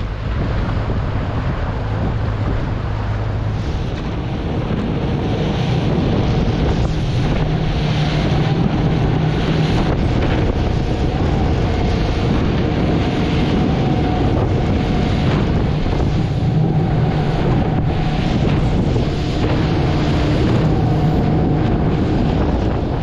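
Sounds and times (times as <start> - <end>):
boat motor running: 0.0 - 23.0
water rushing past hull: 0.0 - 23.0
wind buffeting microphone: 0.0 - 23.0.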